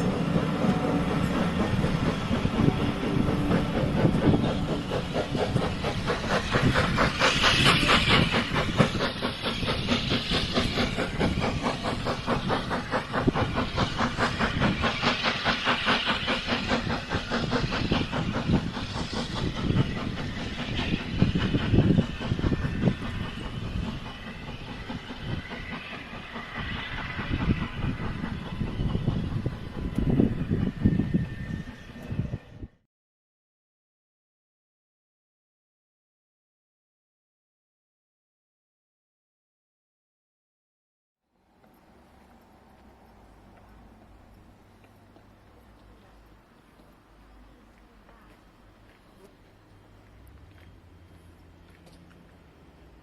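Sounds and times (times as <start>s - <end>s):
train clattering past: 0.0s - 32.6s, 41.4s - 53.0s
steam hissing: 0.0s - 32.7s, 41.5s - 53.0s.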